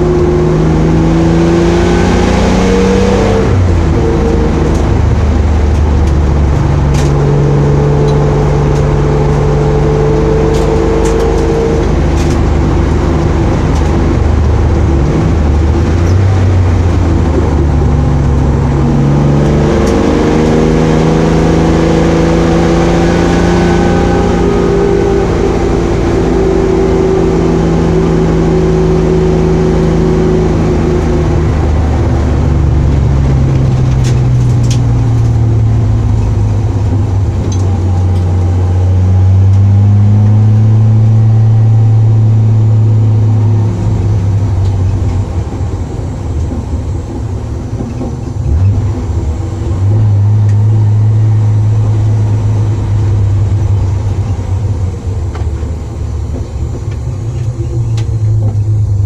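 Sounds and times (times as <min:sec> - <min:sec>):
car engine from inside cabin: 0:00.0 - 0:59.0.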